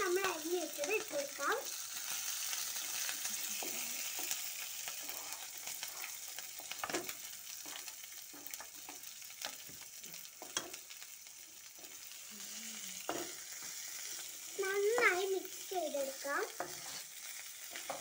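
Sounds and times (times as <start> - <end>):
chillies sizzling in hot oil: 0.0 - 18.0.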